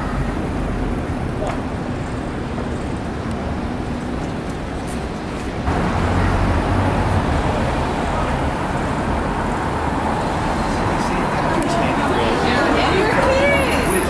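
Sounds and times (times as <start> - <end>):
street traffic hiss and rumble: 0.0 - 14.0.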